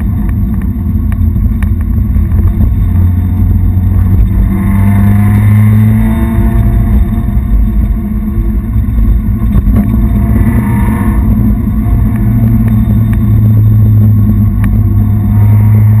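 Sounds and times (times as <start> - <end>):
car engine running: 0.0 - 16.0
road rumble: 0.0 - 16.0.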